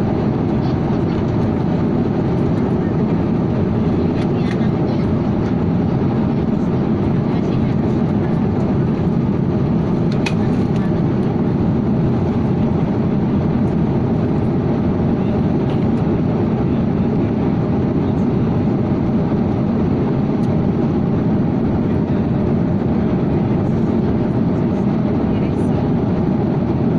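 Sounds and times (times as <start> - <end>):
jet airliner cabin noise: 0.0 - 26.9.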